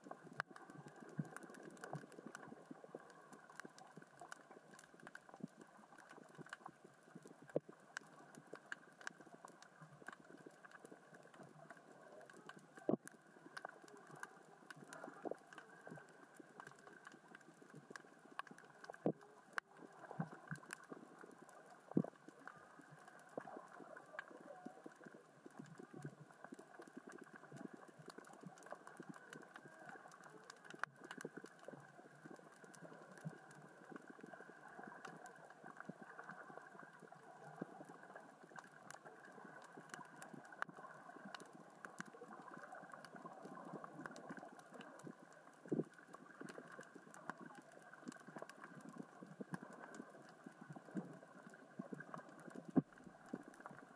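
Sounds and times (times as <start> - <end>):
underwater rocks clicking and knocking: 0.0 - 53.9.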